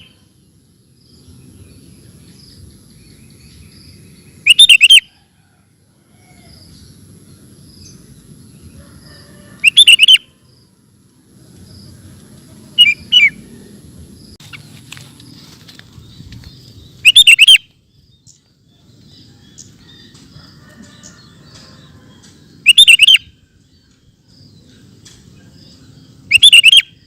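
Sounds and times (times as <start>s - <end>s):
bulbul singing: 0.0s - 5.1s, 6.4s - 11.0s, 11.6s - 27.0s.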